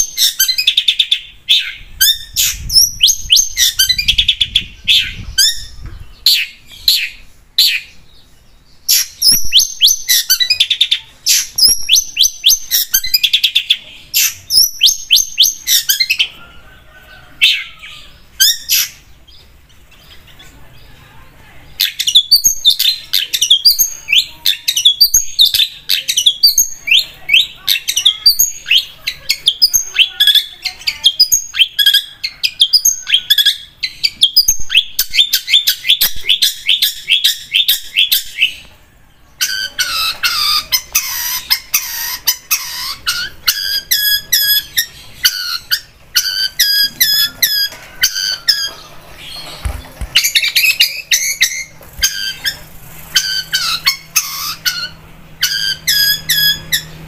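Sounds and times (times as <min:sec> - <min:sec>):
bird chirps and trills: 0:00.0 - 0:57.0.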